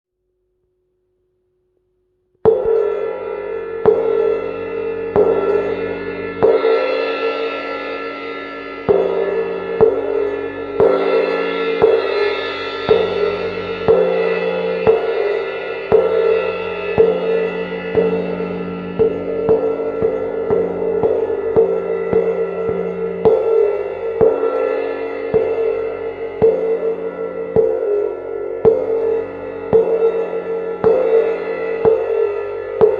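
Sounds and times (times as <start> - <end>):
cymbal struck with mallets: 2.5 - 32.9.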